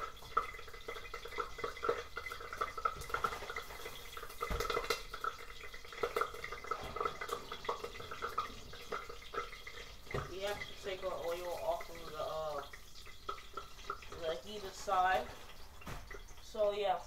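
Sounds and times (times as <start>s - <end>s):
cooking oil popping in a pan: 0.0s - 17.0s.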